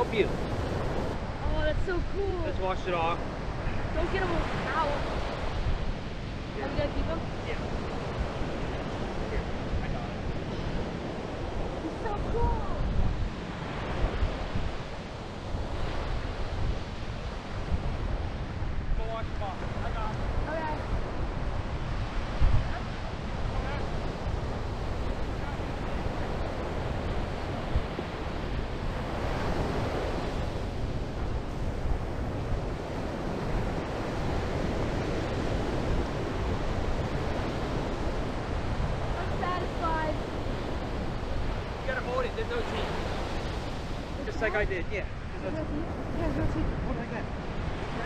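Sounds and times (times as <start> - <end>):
ocean surf washing: 0.0 - 48.0
wind buffeting microphone: 0.0 - 48.0.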